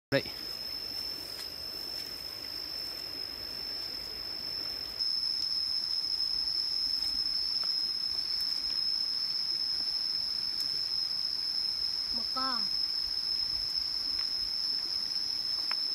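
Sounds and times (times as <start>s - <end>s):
insects droning: 0.1s - 15.9s.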